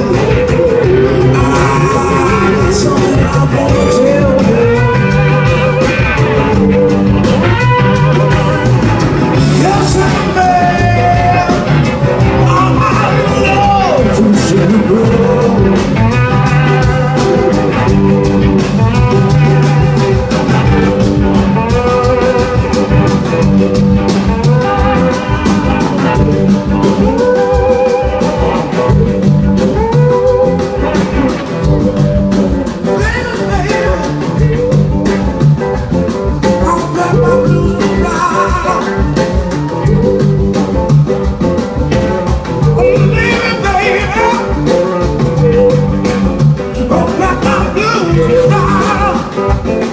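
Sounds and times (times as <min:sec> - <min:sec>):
person singing: 0:00.0 - 0:23.4, 0:24.2 - 0:35.5, 0:36.4 - 0:41.0, 0:42.3 - 0:49.9
blues rock band playing: 0:00.0 - 0:49.9
guitar: 0:00.0 - 0:49.9.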